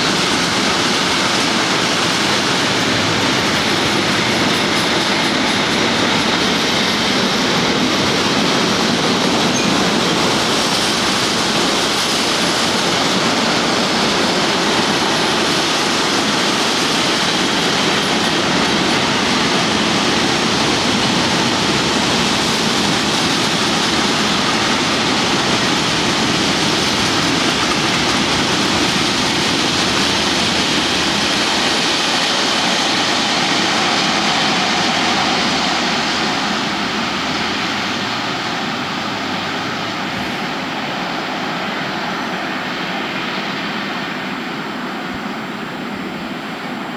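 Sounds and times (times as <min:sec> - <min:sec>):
train wheels rolling on track: 0:00.0 - 0:46.9.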